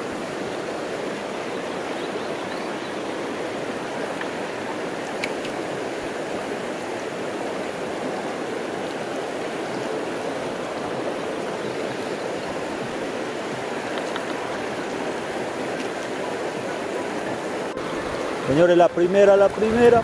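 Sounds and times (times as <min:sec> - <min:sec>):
rocky creek rushing over stones: 0:00.0 - 0:20.0.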